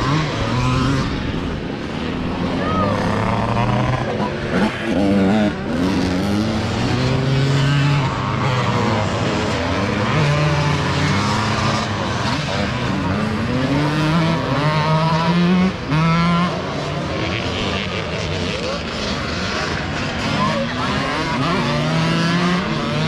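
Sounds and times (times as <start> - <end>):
motocross bikes revving: 0.0 - 23.0.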